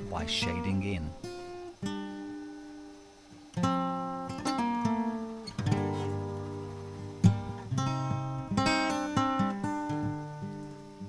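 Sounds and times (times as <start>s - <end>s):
acoustic guitar chords strummed: 0.0s - 11.0s.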